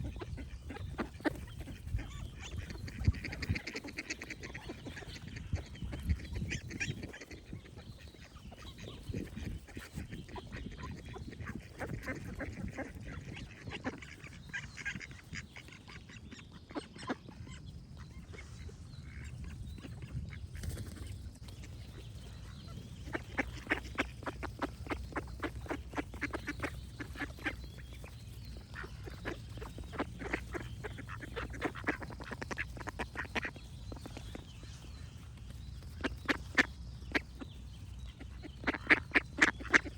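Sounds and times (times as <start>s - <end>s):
ducks quacking: 0.0s - 39.9s.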